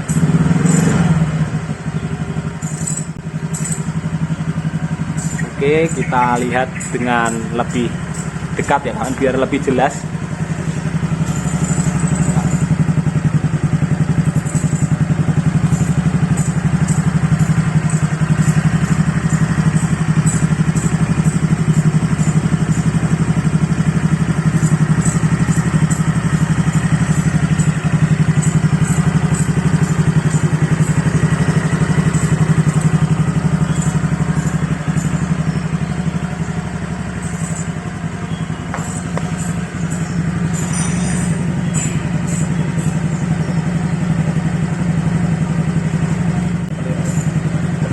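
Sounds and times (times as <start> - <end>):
scooter engine idling: 0.0 - 47.9.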